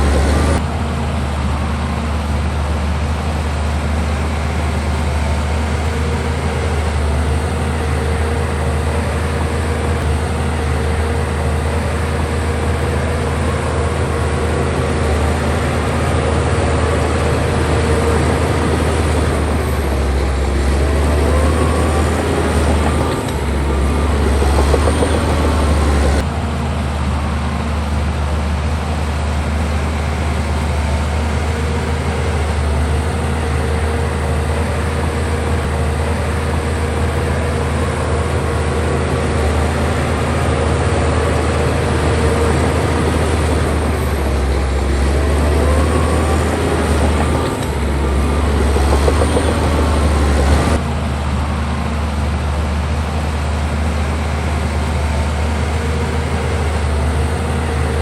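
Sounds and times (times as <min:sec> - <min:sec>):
diesel earthmoving machinery droning: 0:00.0 - 0:58.0
faint machine whine: 0:00.0 - 0:58.0.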